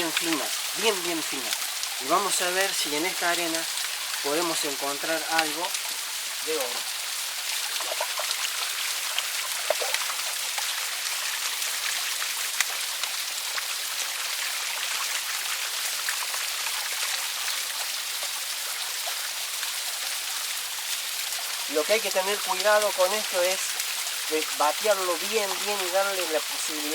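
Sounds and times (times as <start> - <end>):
small waterfall splashing: 0.0 - 26.9.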